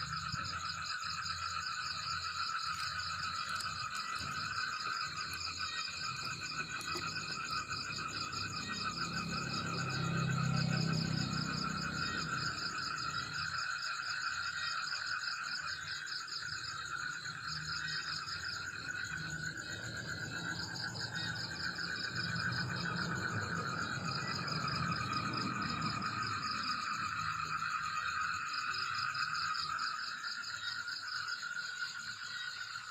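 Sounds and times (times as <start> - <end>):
frogs and insects trilling: 0.0 - 32.9.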